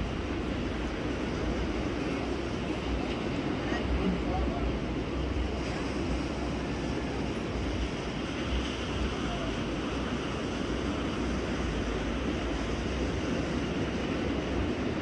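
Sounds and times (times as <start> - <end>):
distant ocean surf: 0.0 - 15.0.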